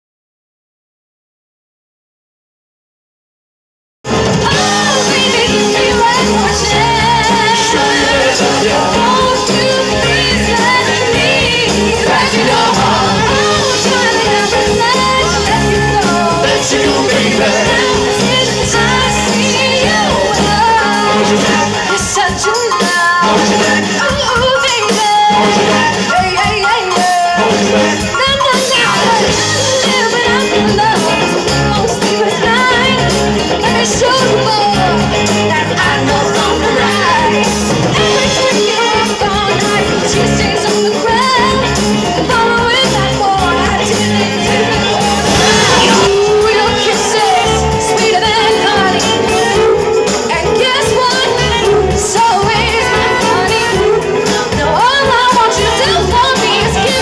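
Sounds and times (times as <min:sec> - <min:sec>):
congas: 0:04.0 - 0:57.0
live soul band playing: 0:04.0 - 0:57.0
person singing: 0:04.4 - 0:57.0.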